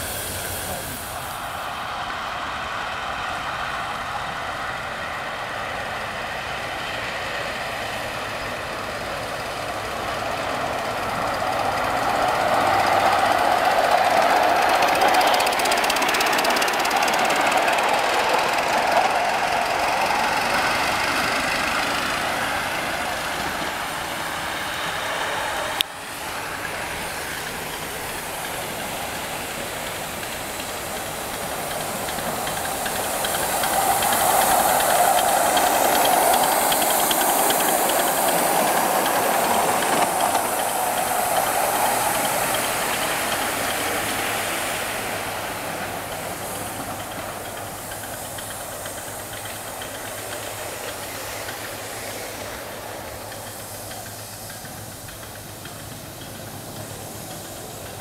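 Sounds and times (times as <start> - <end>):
steam hissing: 0.0 - 58.0
steam locomotive exhaust chuffing: 0.0 - 58.0.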